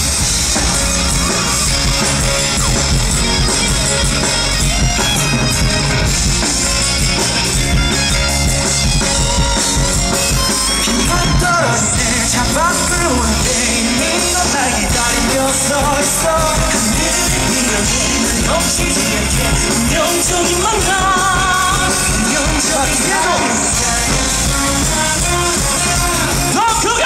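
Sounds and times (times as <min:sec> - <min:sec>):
electric guitar: 0:00.0 - 0:27.0
rock drums: 0:00.0 - 0:27.0.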